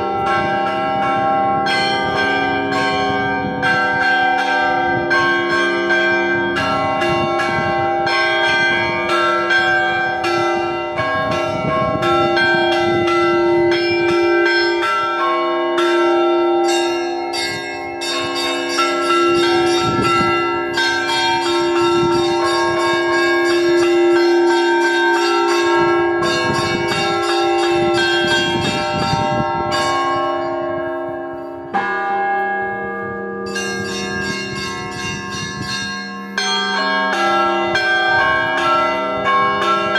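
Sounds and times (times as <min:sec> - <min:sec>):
church bells ringing a peal: 0:00.0 - 0:39.9
deep large bell tone: 0:00.0 - 0:39.9.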